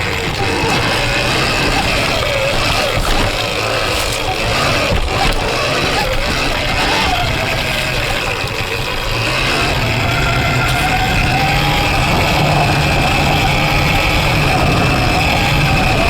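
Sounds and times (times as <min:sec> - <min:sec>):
electric motorbike motor whining: 0:00.0 - 0:16.0.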